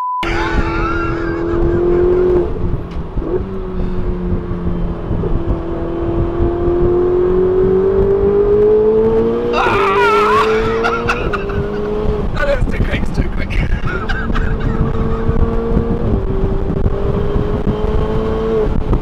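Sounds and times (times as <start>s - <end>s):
car engine revving through gears: 0.2s - 13.1s, 13.8s - 19.0s.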